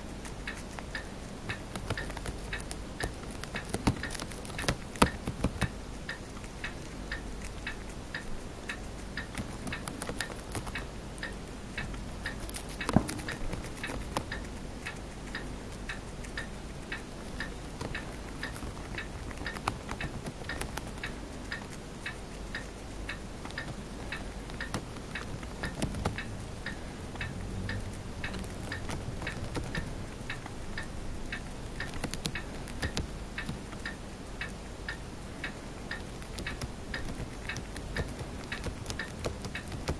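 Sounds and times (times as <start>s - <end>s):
hamster nibbling cabbage leaf: 0.0s - 39.9s.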